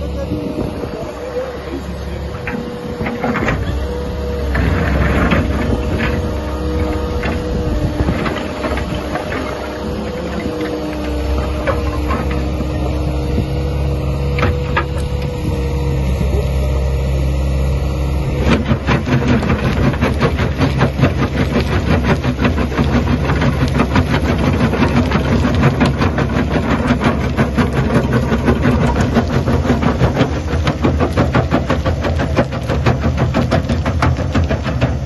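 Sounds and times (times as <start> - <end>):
crusher bucket crunching concrete: 0.0 - 35.0
excavator hydraulics humming: 0.0 - 35.0.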